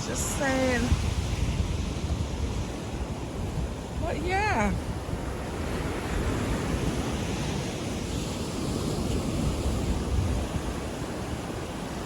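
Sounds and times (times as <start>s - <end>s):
ocean waves washing up: 0.0s - 12.0s
wind buffeting microphone: 0.0s - 12.0s.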